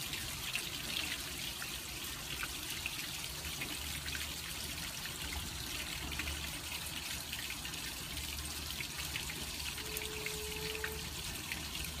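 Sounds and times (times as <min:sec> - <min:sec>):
steady rain falling: 0:00.0 - 0:12.0
water dripping down rain chain: 0:00.0 - 0:12.0.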